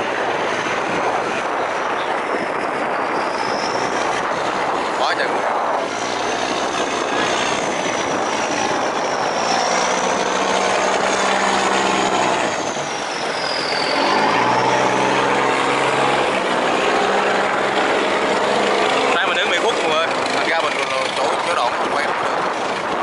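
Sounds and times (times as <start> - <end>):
boat diesel engines droning: 0.0 - 23.0.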